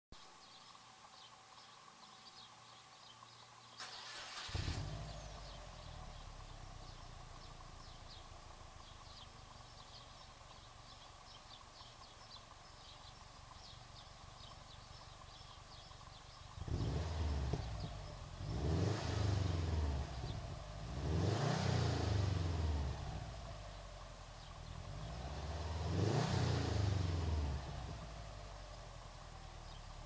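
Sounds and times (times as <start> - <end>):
birds chirping faintly: 0.2 - 30.0
car engine starting and idling: 3.7 - 30.0.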